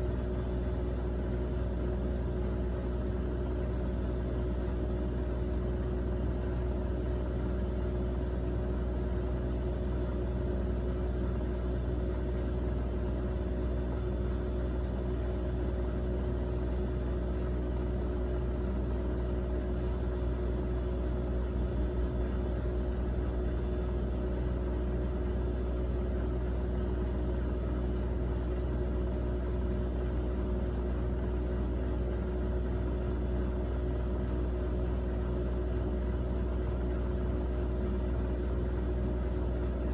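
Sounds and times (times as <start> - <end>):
washing machine rumble and whine: 0.0 - 39.9.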